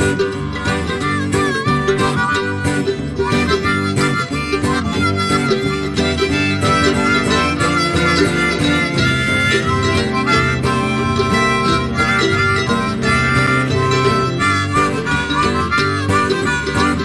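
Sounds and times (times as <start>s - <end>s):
harmonica solo: 0.0s - 17.0s
strummed guitar: 0.0s - 17.0s.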